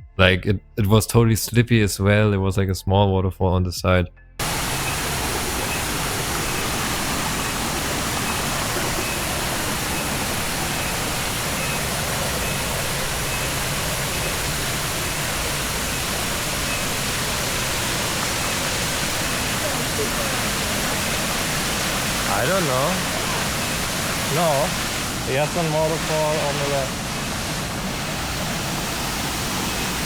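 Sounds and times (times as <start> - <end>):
waterfall roaring: 4.4 - 30.0.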